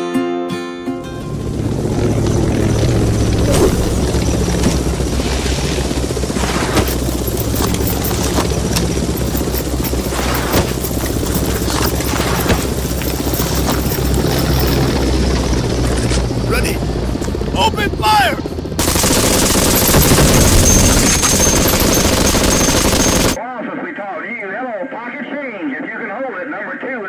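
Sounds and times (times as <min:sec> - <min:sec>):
low mechanical drone: 0:01.0 - 0:23.4.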